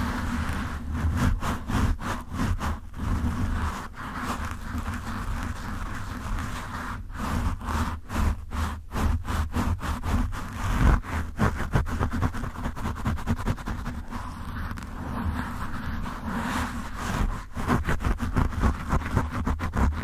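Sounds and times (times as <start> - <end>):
fingers scratching microphone windscreen: 0.0 - 20.0.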